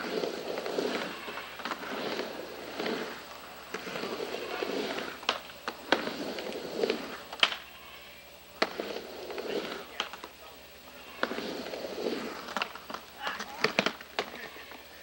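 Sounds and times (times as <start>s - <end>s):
skateboard wheels rolling on wood: 0.0s - 15.0s
skateboard clacking on ramp lip: 0.1s - 7.7s, 8.6s - 10.4s, 11.2s - 15.0s.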